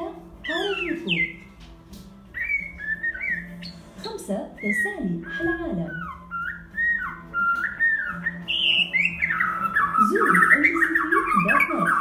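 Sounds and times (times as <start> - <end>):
bird singing whistled notes: 0.4 - 1.5, 2.3 - 12.0.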